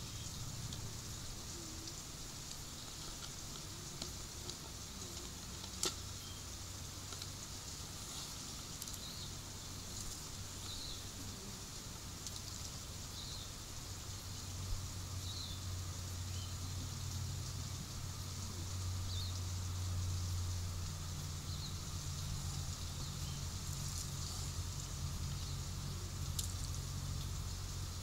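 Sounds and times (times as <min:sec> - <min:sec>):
high-pitched hiss: 0:00.0 - 0:28.0.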